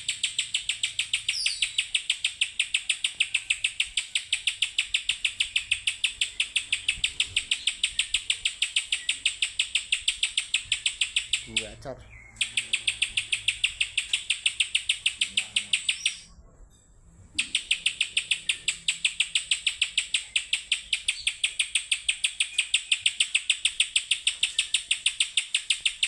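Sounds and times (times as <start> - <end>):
bird sharp high chip notes: 0.0 - 16.3, 17.4 - 26.0.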